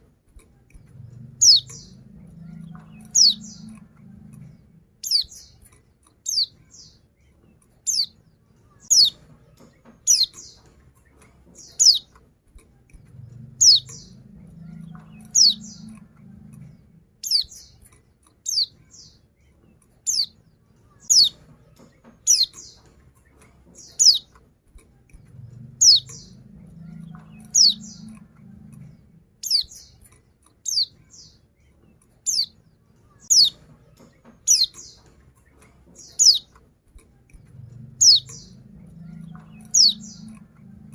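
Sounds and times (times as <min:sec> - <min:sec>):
faint low rumble: 0:00.0 - 0:05.7, 0:06.3 - 0:17.9, 0:18.5 - 0:40.9.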